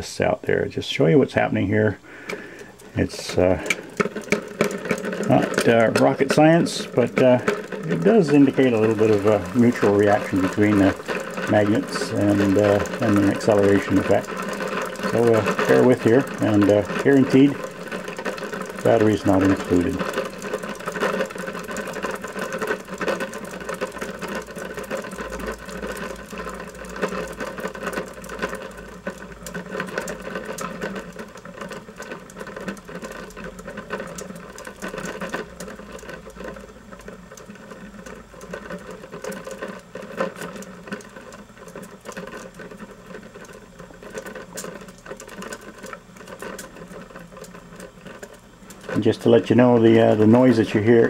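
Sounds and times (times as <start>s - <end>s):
roller bearings rattling and whirring: 0.0s - 51.0s.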